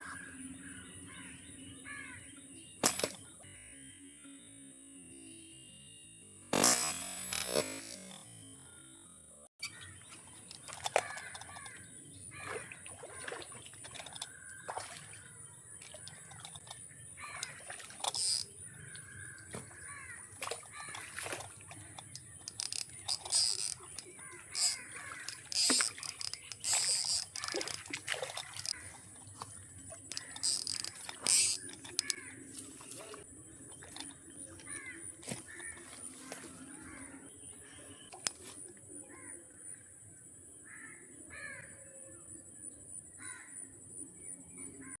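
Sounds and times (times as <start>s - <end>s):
birds chirping: 0.0s - 39.4s.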